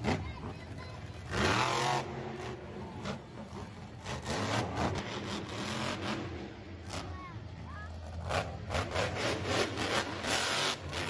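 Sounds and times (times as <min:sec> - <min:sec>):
truck engine revving: 0:01.1 - 0:07.2, 0:08.0 - 0:11.0.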